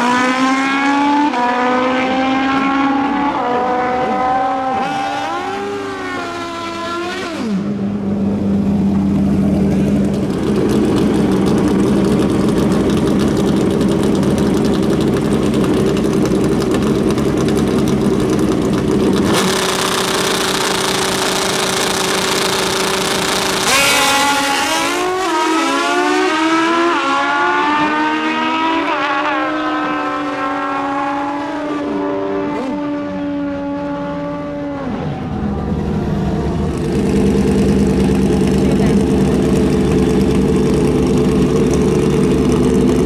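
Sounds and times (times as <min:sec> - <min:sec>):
motorcycle engines running: 0:00.0 - 0:43.0
motorcycles accelerating full throttle: 0:00.0 - 0:43.0.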